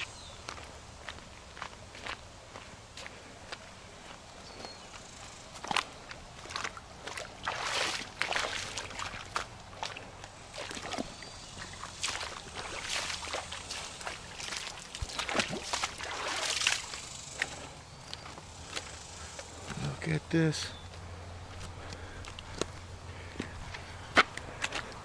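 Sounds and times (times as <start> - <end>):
water sloshing in a creek: 0.0 - 20.1
footsteps on rocky ground: 0.0 - 25.0.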